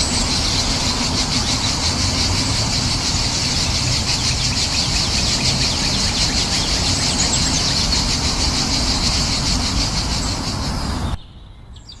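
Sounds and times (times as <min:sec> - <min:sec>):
low outdoor rush: 0:00.0 - 0:11.2.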